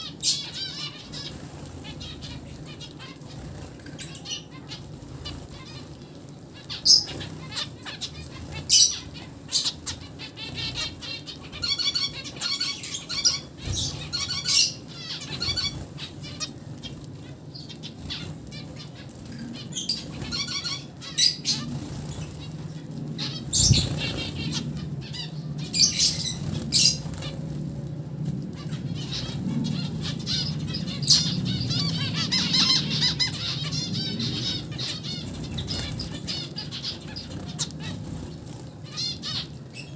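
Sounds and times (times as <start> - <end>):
finches chirping: 0.0 - 6.0, 6.6 - 27.4, 28.6 - 39.9
low steady hum: 0.0 - 39.9.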